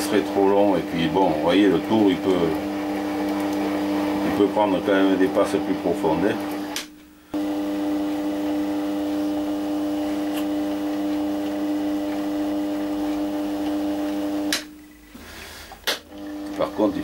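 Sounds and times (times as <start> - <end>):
metal lathe humming: 0.0 - 6.8, 7.4 - 14.7.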